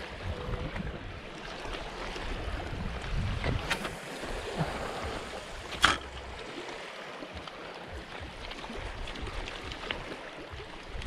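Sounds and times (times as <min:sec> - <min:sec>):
small waves on pebbly shore: 0:00.0 - 0:11.0.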